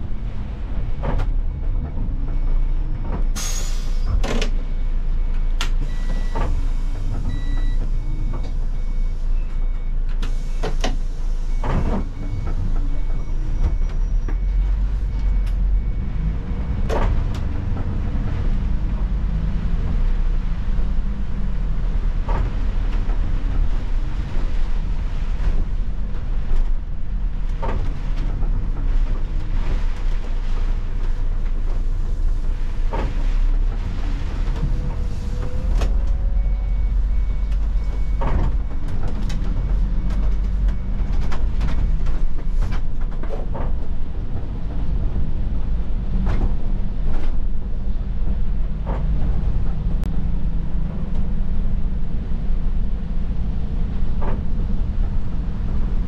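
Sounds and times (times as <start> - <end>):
bus body knocks and rattles: 0.0 - 3.4, 4.1 - 9.0, 9.6 - 56.0
bus engine and road rumble: 0.0 - 56.0.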